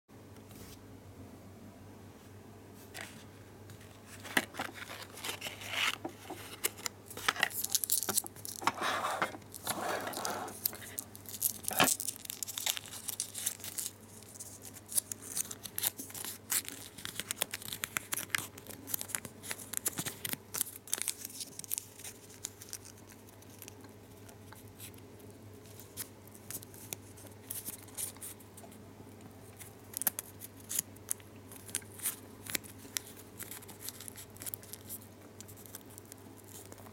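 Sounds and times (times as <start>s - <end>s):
faint steady hum: 0.1s - 36.9s
foil wrapper crinkling: 4.1s - 8.7s, 9.4s - 25.0s, 25.6s - 28.4s, 29.6s - 36.9s.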